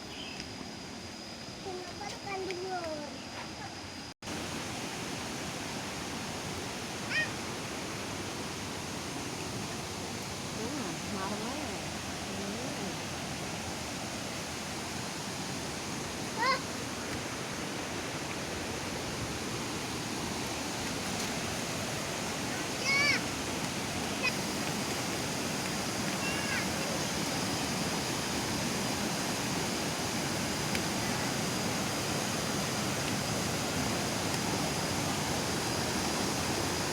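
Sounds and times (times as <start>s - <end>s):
waterfall rushing: 4.3s - 36.9s.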